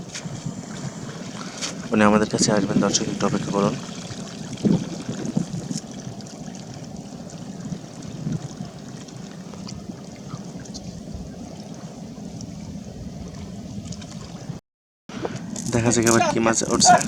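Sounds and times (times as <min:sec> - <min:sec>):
low steady hum: 0:00.0 - 0:14.4
water lapping around boat: 0:00.0 - 0:17.0.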